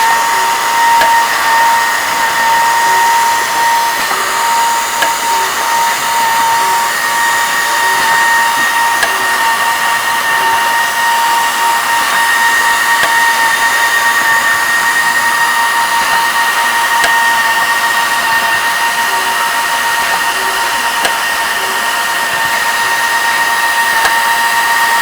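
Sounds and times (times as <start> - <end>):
pneumatic machine whine: 0.0 - 25.0.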